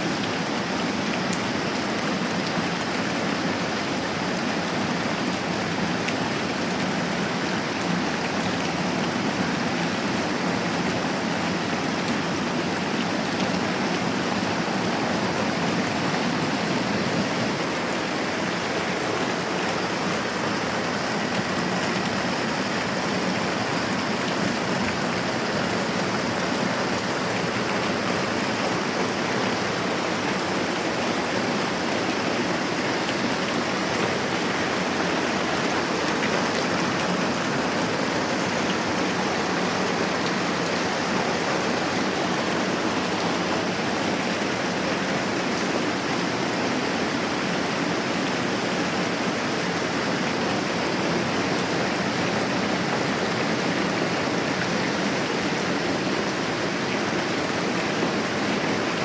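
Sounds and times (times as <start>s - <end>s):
rain falling steadily: 0.0s - 59.0s.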